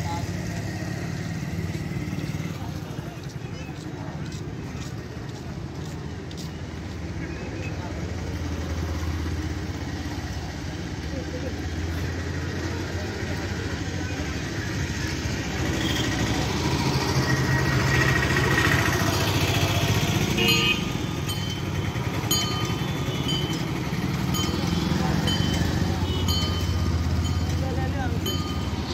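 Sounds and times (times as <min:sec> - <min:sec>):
motorcycle engines passing: 0:00.0 - 0:28.9.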